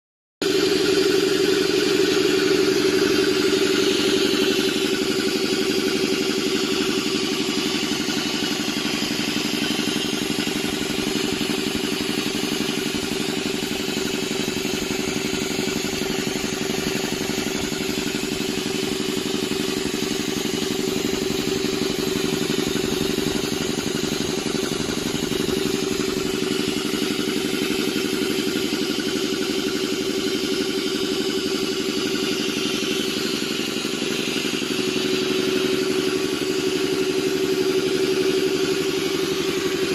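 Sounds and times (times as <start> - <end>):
air compressor running: 0.4 - 39.9.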